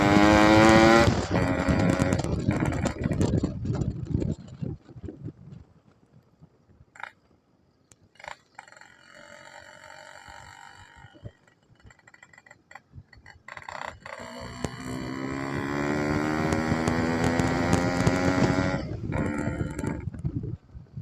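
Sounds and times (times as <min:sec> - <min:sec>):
motorcycle engine revving: 0:00.0 - 0:04.8, 0:08.1 - 0:20.7.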